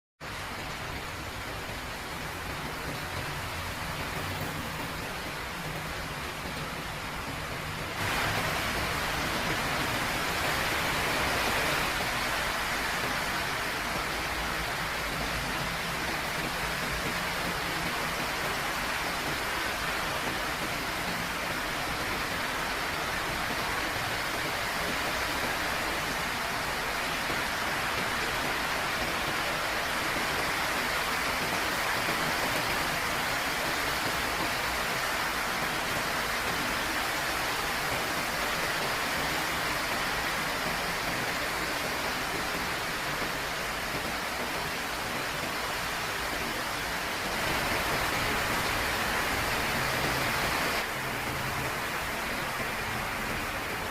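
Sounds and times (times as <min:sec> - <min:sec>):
heavy rain downpour: 0:00.2 - 0:53.9.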